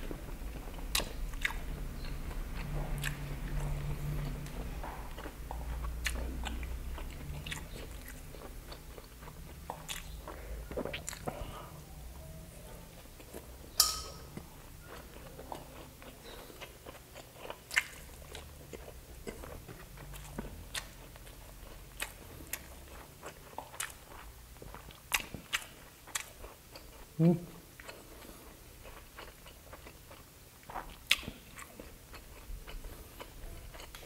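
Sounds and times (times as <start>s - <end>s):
close-miked chewing: 0.0s - 34.0s.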